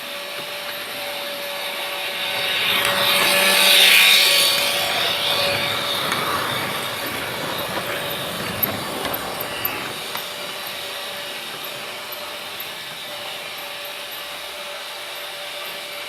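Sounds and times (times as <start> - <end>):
freight train rumbling past: 0.5 - 16.0
metallic clanks of train wheels: 2.1 - 15.2.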